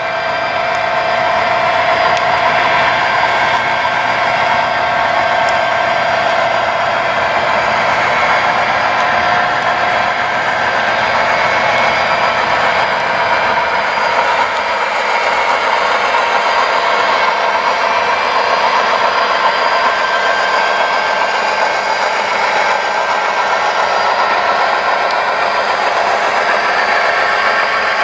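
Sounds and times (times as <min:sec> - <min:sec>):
model train diesel engine sound: 0:00.0 - 0:28.0.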